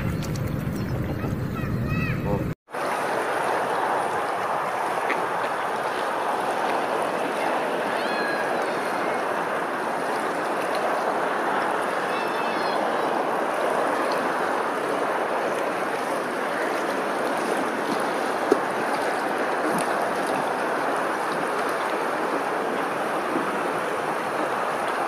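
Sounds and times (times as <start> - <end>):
choppy water lapping: 0.0 - 25.0.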